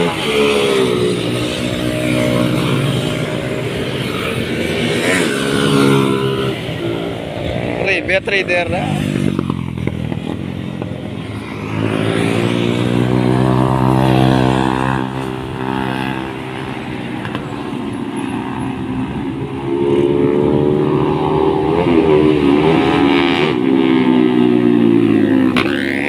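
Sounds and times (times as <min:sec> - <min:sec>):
motorcycles revving past: 0:00.0 - 0:26.0.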